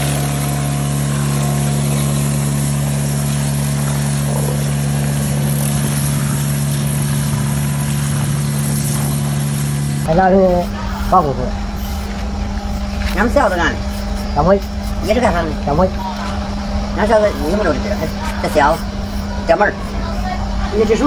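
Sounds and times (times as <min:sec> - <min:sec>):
truck engine and vacuum blower: 0:00.0 - 0:21.0.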